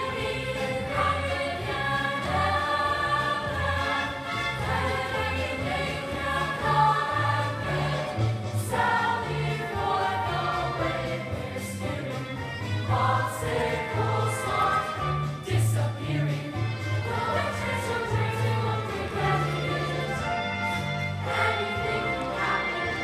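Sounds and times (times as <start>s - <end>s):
chorus of voices singing: 0.0s - 23.0s
upbeat accompaniment: 0.0s - 23.0s.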